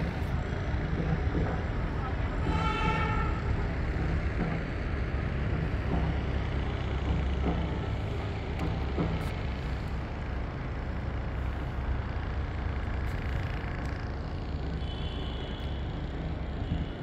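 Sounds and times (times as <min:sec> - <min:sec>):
low rumble of city ambience: 0:00.0 - 0:17.0.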